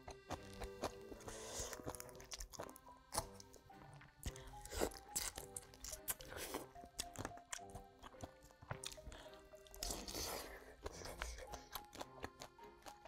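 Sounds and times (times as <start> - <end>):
crunching and chewing: 0.0 - 13.0
soft background music: 0.0 - 13.0.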